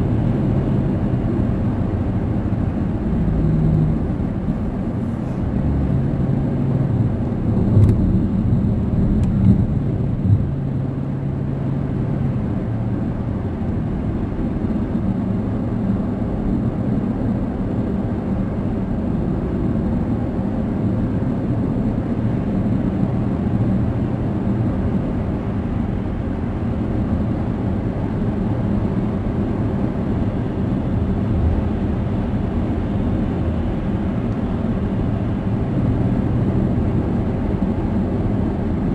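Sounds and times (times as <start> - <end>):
car cabin road and engine drone: 0.0 - 38.9.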